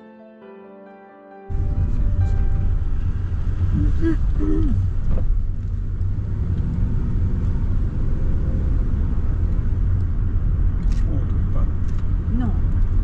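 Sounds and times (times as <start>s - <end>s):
car cabin road and engine rumble: 1.5s - 13.0s.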